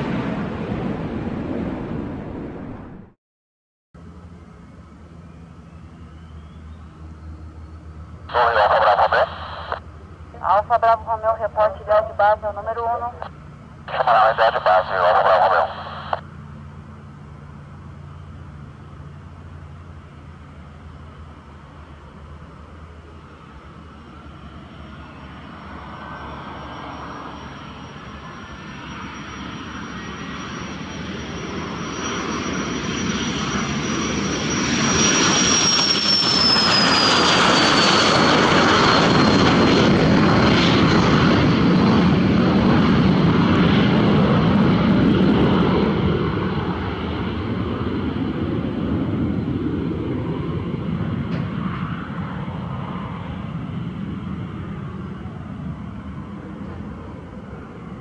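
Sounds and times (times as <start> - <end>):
jet taking off: 0.0 - 3.2, 4.6 - 58.0.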